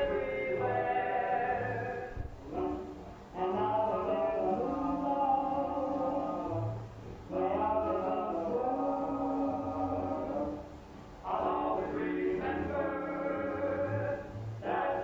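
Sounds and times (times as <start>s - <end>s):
group of voices singing harmony: 0.0s - 2.7s, 3.4s - 15.0s.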